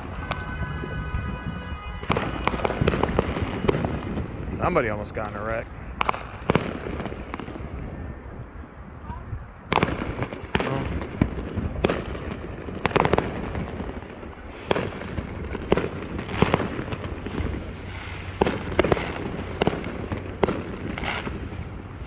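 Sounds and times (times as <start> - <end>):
fireworks banging: 0.0 - 8.0, 9.6 - 22.0.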